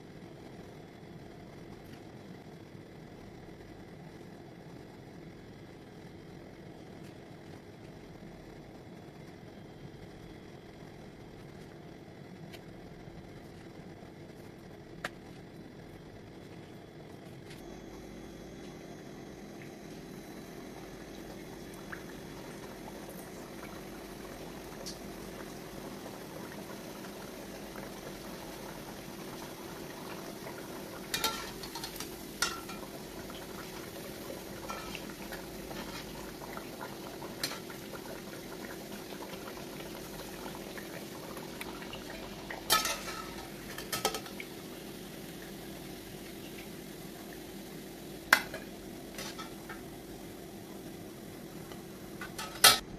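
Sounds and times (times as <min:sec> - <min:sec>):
oil sizzling and bubbling: 0:00.0 - 0:52.9.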